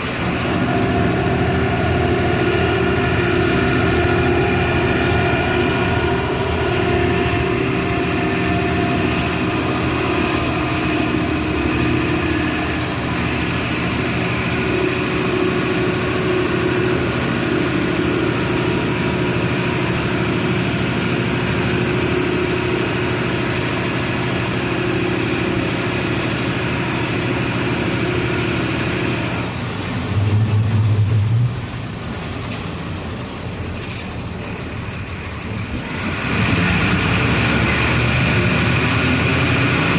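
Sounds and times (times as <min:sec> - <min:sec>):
loud low hum: 0:00.0 - 0:32.5
diesel bus engine running: 0:00.0 - 0:39.9.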